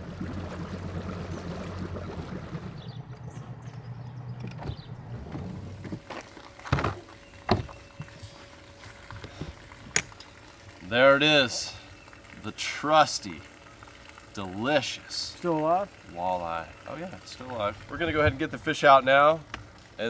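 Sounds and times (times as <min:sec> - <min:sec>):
faint steady hum: 0:00.0 - 0:20.0
outboard motor idling: 0:00.0 - 0:20.0.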